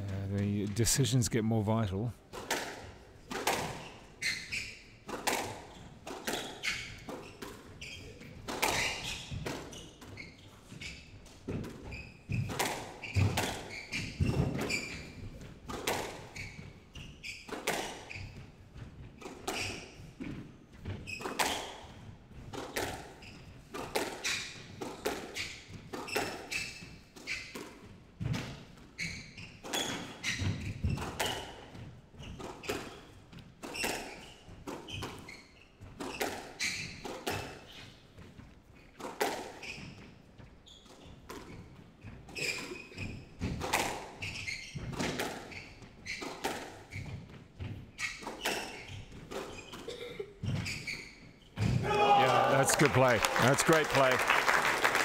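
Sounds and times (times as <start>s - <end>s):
rackets striking squash ball: 2.3s - 40.1s, 40.9s - 52.2s
shoes squeaking on wooden floor: 3.0s - 54.2s.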